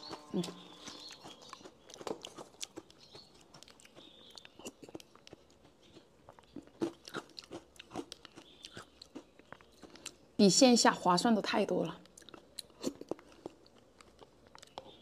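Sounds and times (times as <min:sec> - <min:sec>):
chewing crunchy food: 0:00.0 - 0:10.4, 0:11.8 - 0:15.0.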